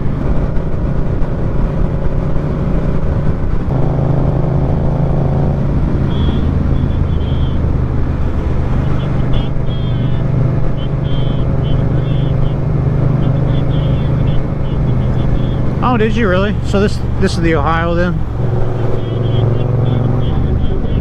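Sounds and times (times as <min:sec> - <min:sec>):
wind noise: 0:00.0 - 0:17.2
motorcycle engine running: 0:00.0 - 0:21.0.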